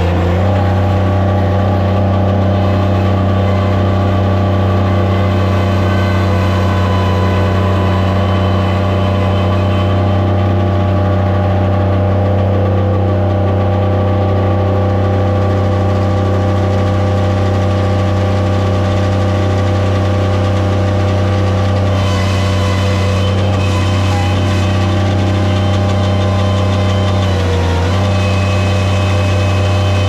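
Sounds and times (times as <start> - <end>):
loader engine droning: 0.0 - 30.0.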